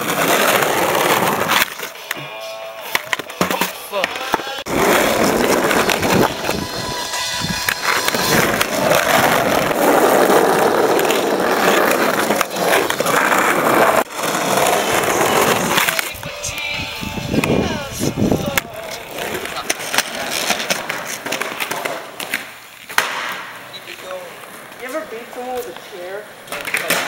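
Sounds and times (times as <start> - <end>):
skateboard wheels rolling on concrete: 0.0 - 27.0.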